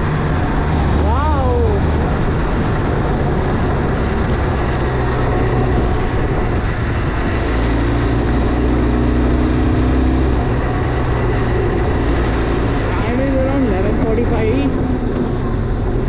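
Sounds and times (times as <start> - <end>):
wind rush: 0.0 - 16.0.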